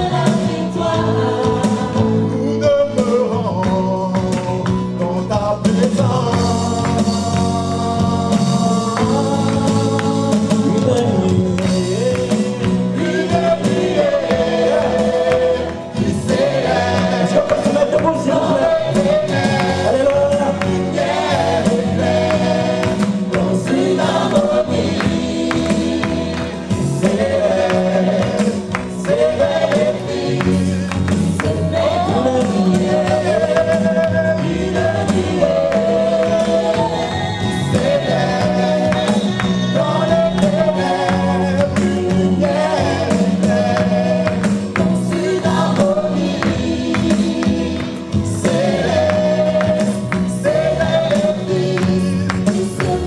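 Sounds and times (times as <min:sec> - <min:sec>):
backing singers: 0:00.0 - 0:53.0
band accompaniment: 0:00.0 - 0:53.0
man singing lead: 0:00.0 - 0:53.0.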